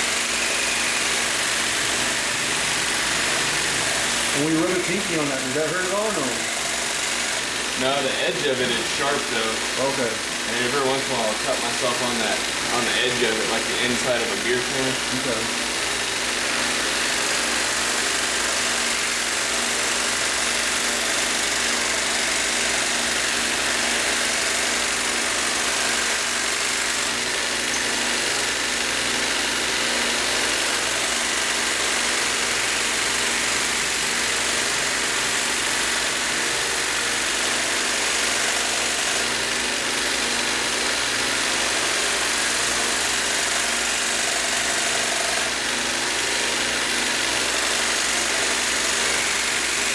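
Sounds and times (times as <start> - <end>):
belt grinder hiss: 0.0 - 49.9.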